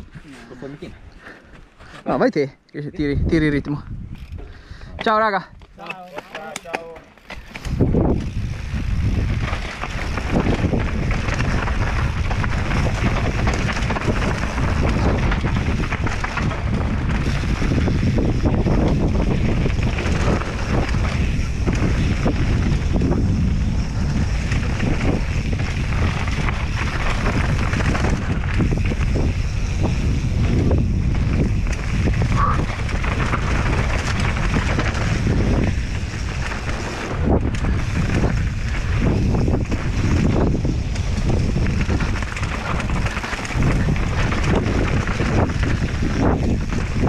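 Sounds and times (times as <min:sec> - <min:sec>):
wind buffeting microphone: 0:00.0 - 0:01.4, 0:02.9 - 0:47.0
bike tyre rumble: 0:00.0 - 0:02.1, 0:03.0 - 0:47.0
bike rattles and knocks: 0:04.1 - 0:47.0.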